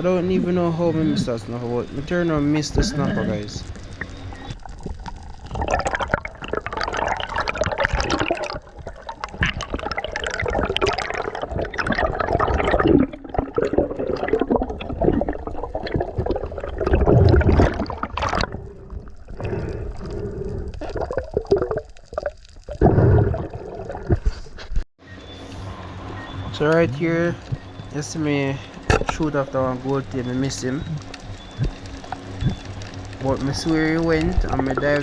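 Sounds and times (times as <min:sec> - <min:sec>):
water gurgling and sloshing: 0:00.0 - 0:35.0.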